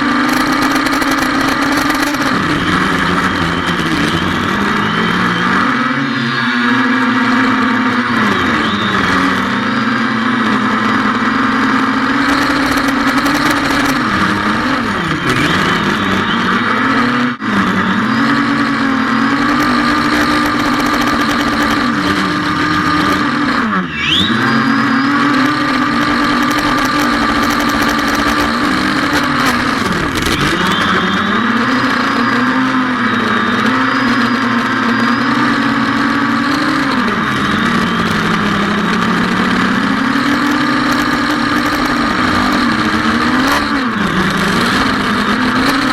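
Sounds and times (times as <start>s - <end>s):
drone motors whining: 0.0s - 45.9s.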